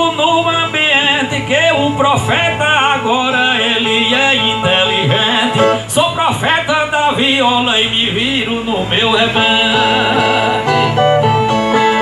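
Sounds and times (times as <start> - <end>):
man singing: 0.0 - 12.0
steel-string guitars playing: 0.0 - 12.0.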